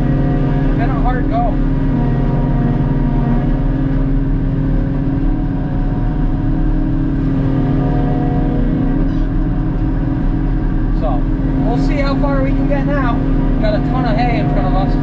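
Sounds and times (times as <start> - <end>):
forage harvester engine drone: 0.0 - 15.0.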